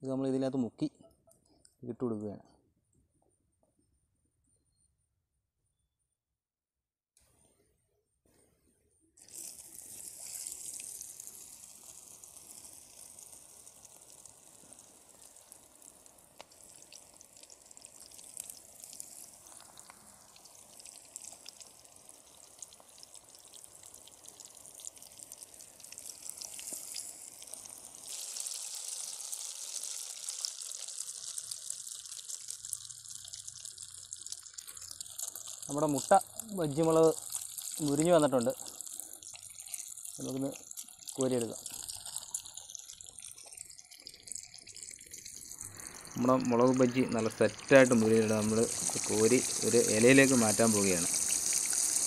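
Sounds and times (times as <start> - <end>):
oil sizzling and crackling: 9.2 - 52.0.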